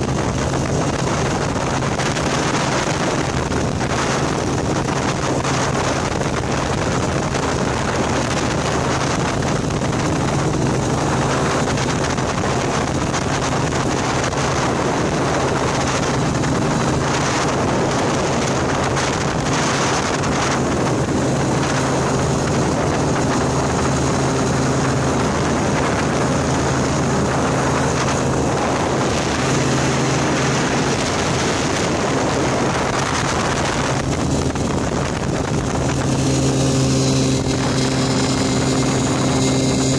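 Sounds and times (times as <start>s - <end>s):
light aircraft engine droning: 0.0s - 39.9s
wind on microphone: 0.0s - 39.9s.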